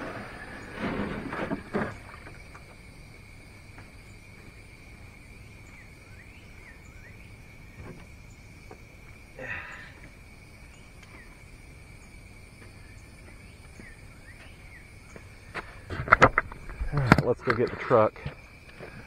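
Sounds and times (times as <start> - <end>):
cricket chorus drone: 0.0 - 19.0.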